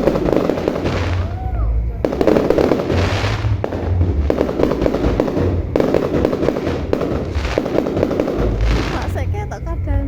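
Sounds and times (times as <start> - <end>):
fireworks hissing bursts: 0.0 - 9.4
fireworks crackling and booming: 0.0 - 9.6.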